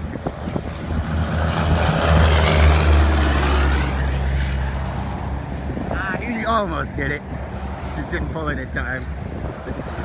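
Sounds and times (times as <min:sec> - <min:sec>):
trucks passing by: 0:00.0 - 0:10.0.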